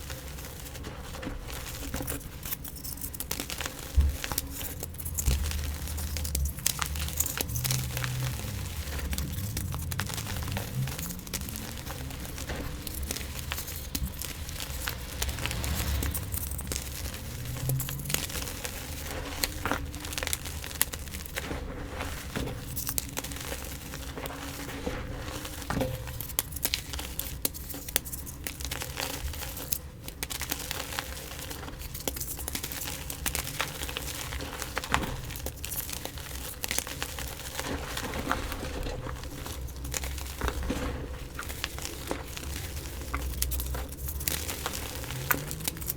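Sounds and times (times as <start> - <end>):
chalk being crushed: 0.0 - 45.9.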